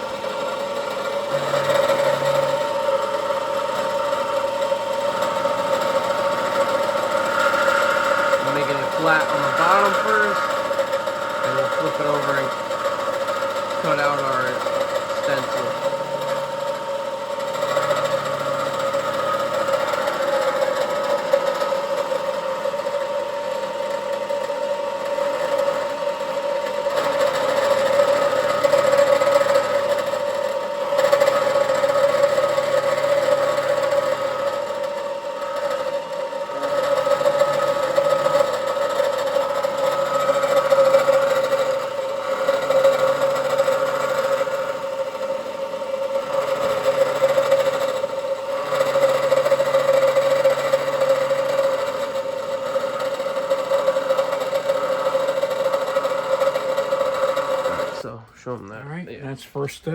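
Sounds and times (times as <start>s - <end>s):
low cutter hum: 0.0s - 59.9s
milling machine whining: 0.0s - 59.9s.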